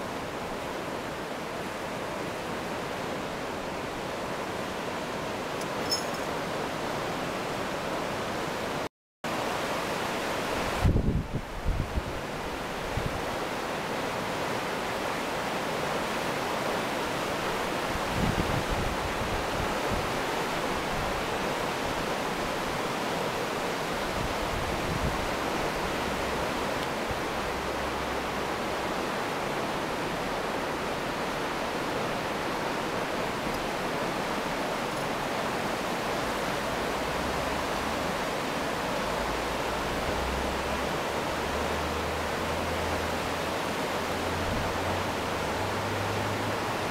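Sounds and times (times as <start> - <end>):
river rushing turbulent whitewater: 0.0 - 46.9.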